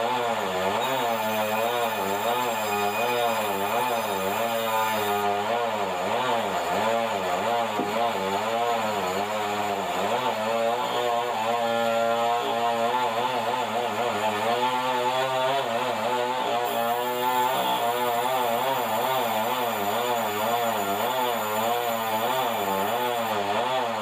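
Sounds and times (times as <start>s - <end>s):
band saw mechanical drone: 0.0s - 23.4s.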